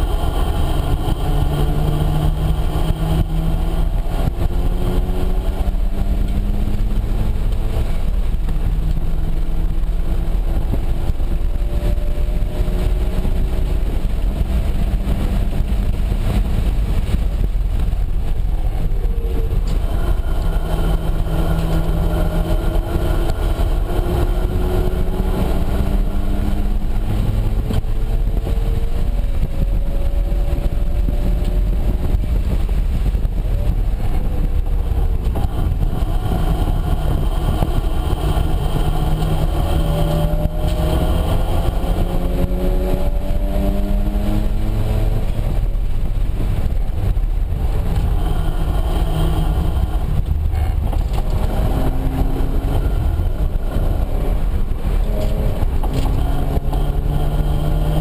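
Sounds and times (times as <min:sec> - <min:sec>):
car engine accelerating: 0:00.0 - 0:58.0
road and wind noise: 0:00.0 - 0:58.0.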